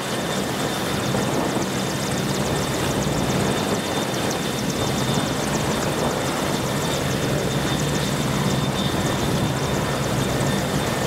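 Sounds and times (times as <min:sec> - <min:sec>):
helicopter engines and rotor: 0:00.0 - 0:11.0
high turbine whine: 0:00.0 - 0:11.0.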